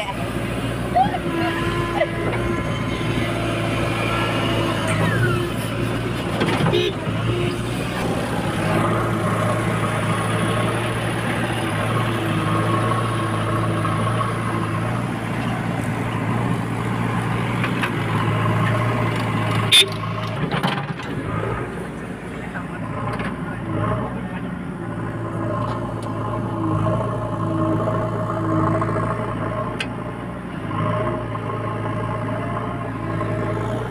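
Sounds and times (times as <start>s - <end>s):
diesel machinery engine running: 0.0s - 33.9s.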